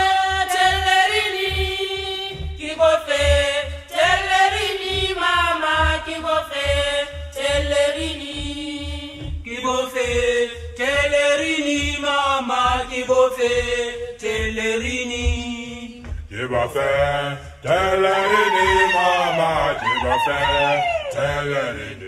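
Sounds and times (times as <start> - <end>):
low drum beat: 0.0 - 22.0
voices singing in harmony: 0.0 - 22.0.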